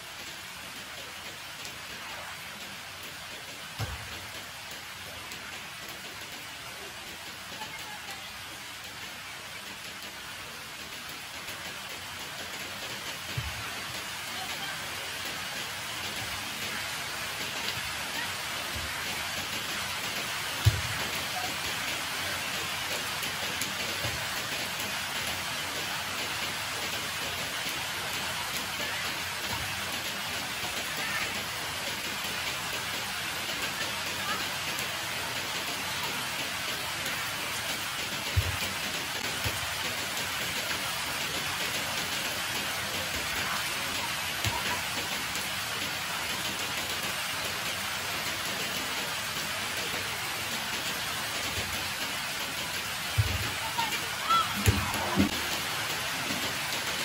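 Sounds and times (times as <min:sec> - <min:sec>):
rain on concrete: 0:00.0 - 0:57.0.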